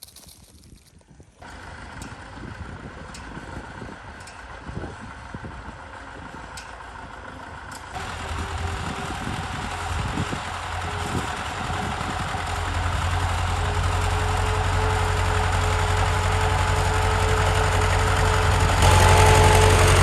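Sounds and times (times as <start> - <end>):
old tractor engine running: 1.4 - 20.0.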